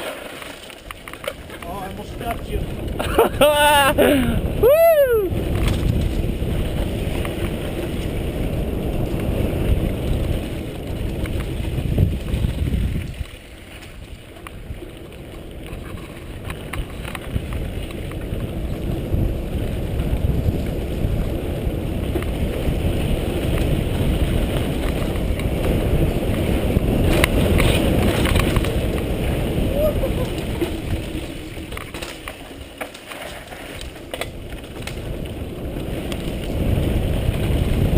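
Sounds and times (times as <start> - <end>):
rattling over rough trail: 0.0 - 37.9
wind rushing over microphone: 1.4 - 32.6, 33.8 - 37.9.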